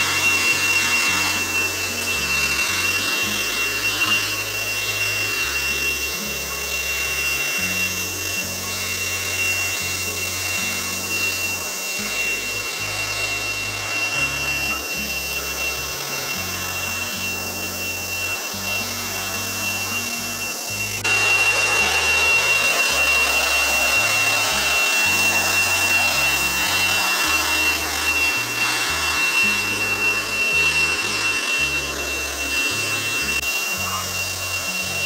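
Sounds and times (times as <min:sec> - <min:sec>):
leaf blower running: 0:00.0 - 0:35.0.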